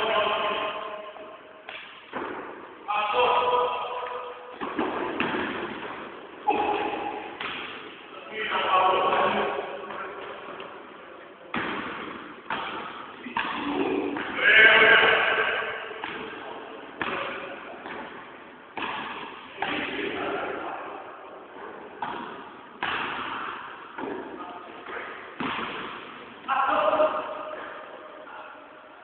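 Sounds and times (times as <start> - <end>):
basketballs bouncing in echoing gym: 0.0 - 28.9.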